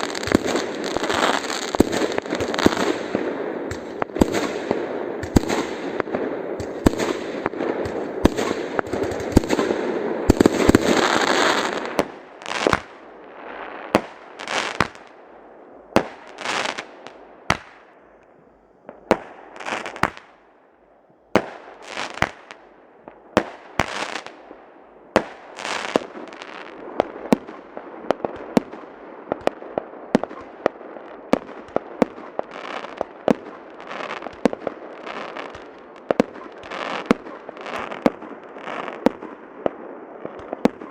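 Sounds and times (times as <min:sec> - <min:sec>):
fireworks sharp bangs: 0:00.0 - 0:18.2, 0:18.8 - 0:20.5, 0:21.3 - 0:40.9
fireworks crackling: 0:00.0 - 0:20.4, 0:21.4 - 0:40.9.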